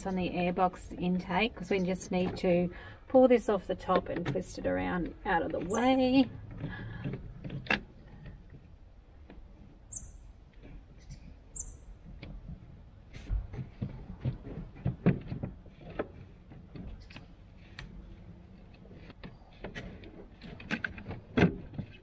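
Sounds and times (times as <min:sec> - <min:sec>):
hose clamps clicking and knocking: 0:01.3 - 0:09.5, 0:12.0 - 0:22.0.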